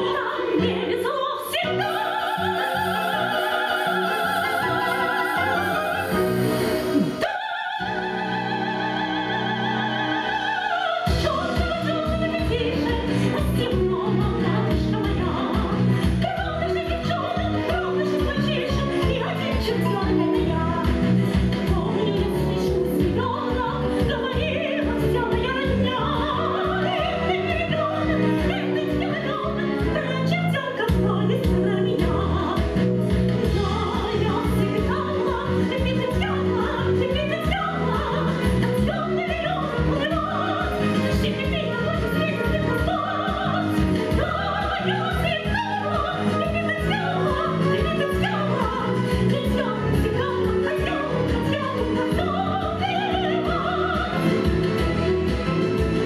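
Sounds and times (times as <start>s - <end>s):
woman singing operatically: 0.0s - 32.8s, 33.4s - 54.8s.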